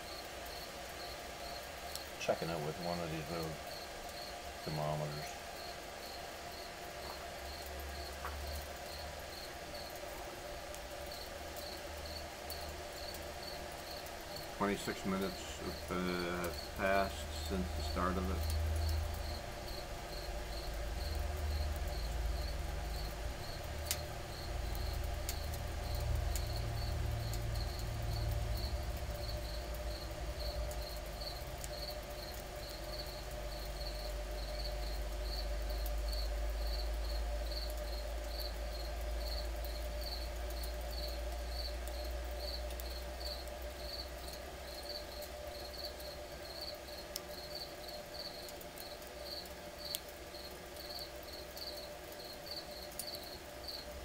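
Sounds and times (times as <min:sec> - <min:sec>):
fire rumbling in stove: 0:00.0 - 0:52.3
fire crackles: 0:00.0 - 0:54.0.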